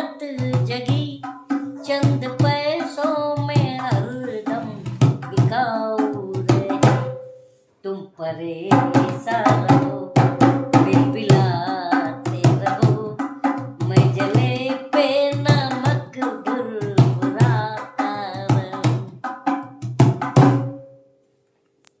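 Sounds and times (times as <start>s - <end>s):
person singing: 0.0s - 7.1s, 7.8s - 19.2s.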